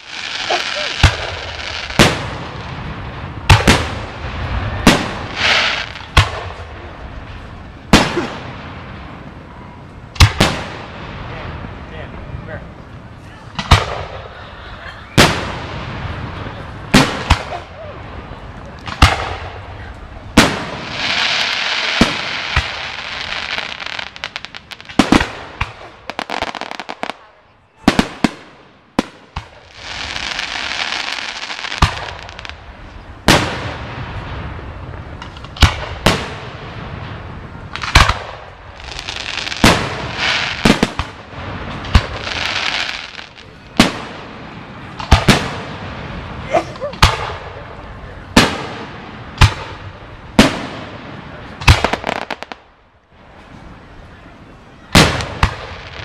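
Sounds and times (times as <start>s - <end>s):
firework bangs: 0.0s - 11.9s, 13.5s - 14.4s, 15.1s - 53.4s, 54.7s - 56.0s
hissing crackle of fireworks: 0.0s - 56.0s.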